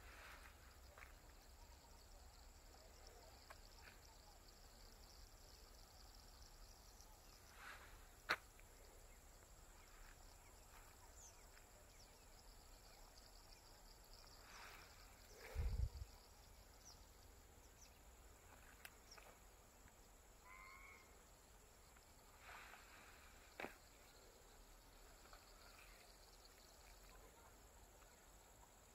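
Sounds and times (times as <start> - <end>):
faint bird chirps: 0.0 - 19.5, 20.3 - 28.9.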